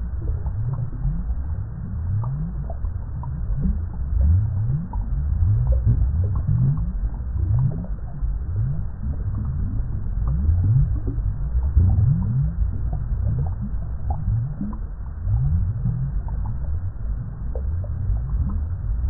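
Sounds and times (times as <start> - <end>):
water bubbling in low gurgles: 0.0 - 19.0.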